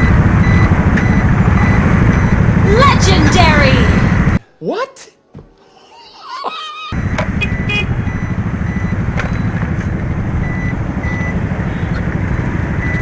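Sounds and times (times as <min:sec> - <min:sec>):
motor scooter riding: 0:00.0 - 0:04.4, 0:06.9 - 0:13.0.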